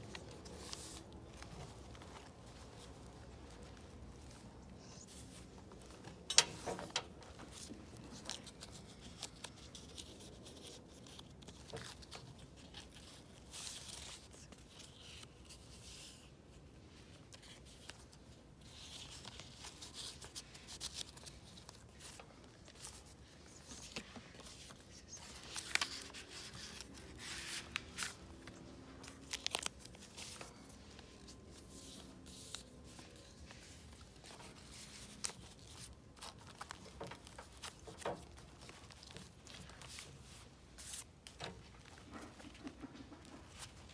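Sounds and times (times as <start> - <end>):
paper rustling and crinkling: 0.0 - 43.9.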